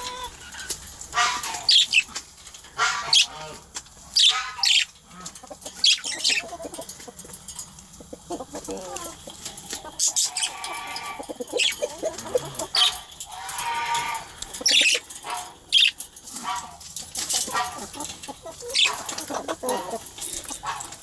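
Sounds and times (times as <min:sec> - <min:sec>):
budgerigars chattering and warbling: 0:00.0 - 0:07.0, 0:08.0 - 0:21.0.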